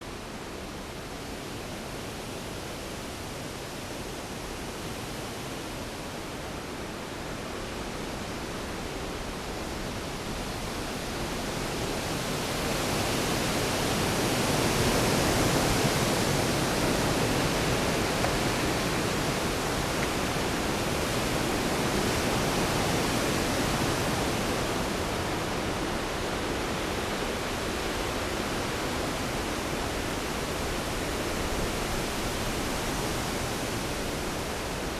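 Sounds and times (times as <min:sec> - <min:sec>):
heavy rain hiss: 0:00.2 - 0:34.9.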